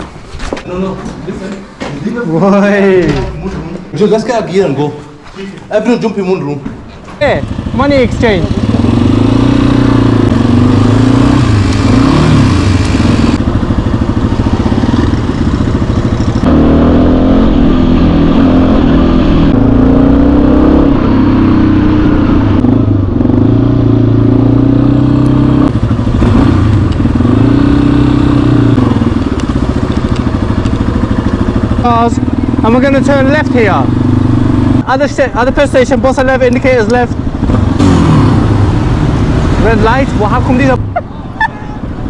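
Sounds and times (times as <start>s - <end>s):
motorcycle engine revving: 7.2s - 40.9s.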